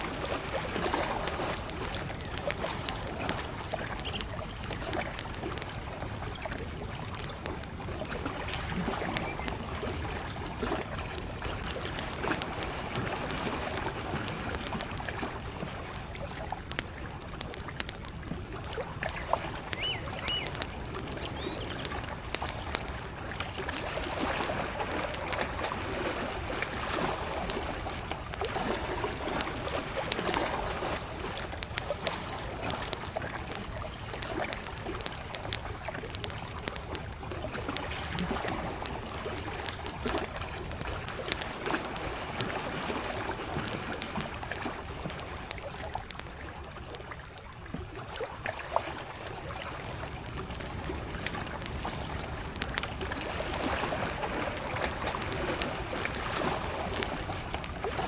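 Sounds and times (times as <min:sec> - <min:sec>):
campfire crackling and popping: 0:00.0 - 0:58.0
small waves lapping at shore: 0:00.0 - 0:58.0.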